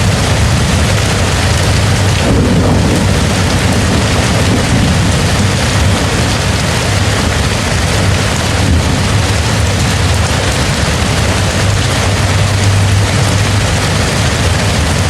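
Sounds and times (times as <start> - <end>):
heavy rain on a tent: 0.0 - 15.0
low rumble: 0.0 - 15.0.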